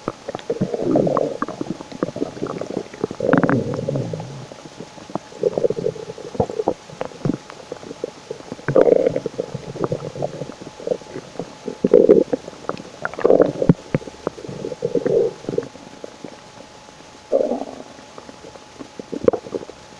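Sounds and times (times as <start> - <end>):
stomach rumbling and gurgling: 0.0 - 19.9.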